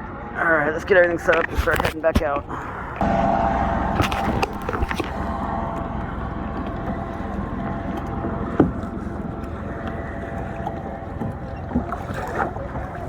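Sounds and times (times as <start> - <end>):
wind buffeting microphone: 1.2 - 13.0.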